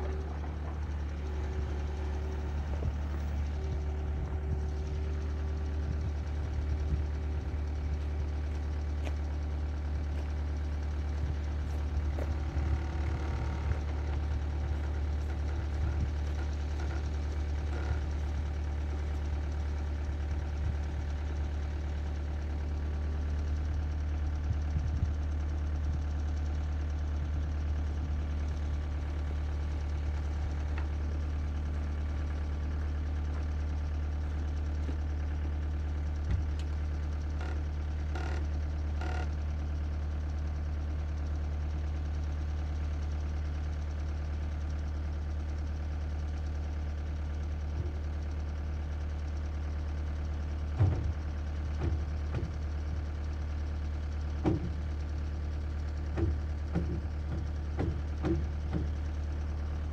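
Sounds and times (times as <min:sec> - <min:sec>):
loader engine idling: 0:00.0 - 0:59.9.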